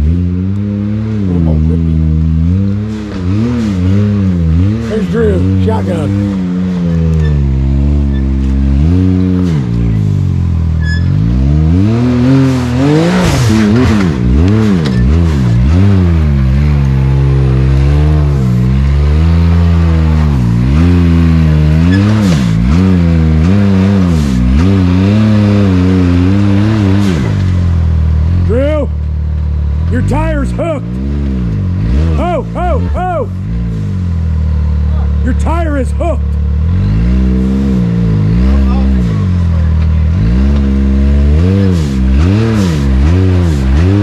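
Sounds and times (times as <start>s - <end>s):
utility vehicle engine revving: 0.0s - 44.0s.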